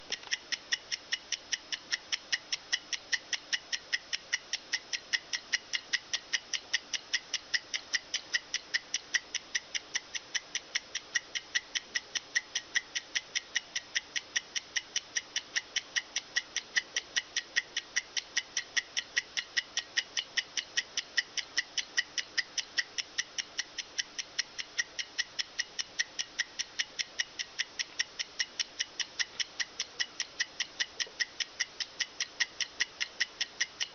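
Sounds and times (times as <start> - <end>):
stopwatch movement ticking rapidly: 0.0 - 33.9.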